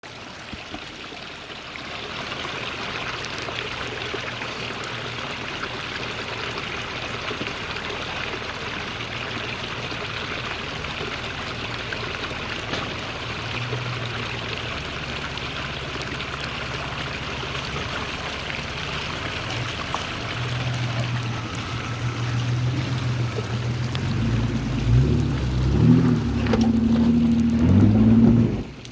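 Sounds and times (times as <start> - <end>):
creek water running: 0.0 - 28.9
vehicle engine hum: 2.7 - 28.9.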